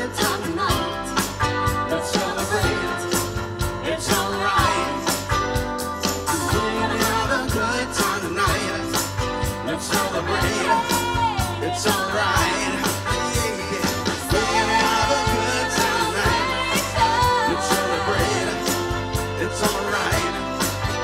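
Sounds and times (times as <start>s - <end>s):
bass guitar: 0.0s - 21.0s
drum kit beat: 0.0s - 21.0s
electric guitar: 0.0s - 21.0s
lead vocals: 0.0s - 21.0s.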